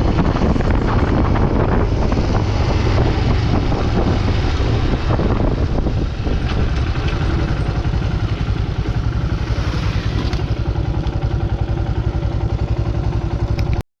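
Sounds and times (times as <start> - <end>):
single-cylinder motorcycle engine running: 0.0 - 13.8.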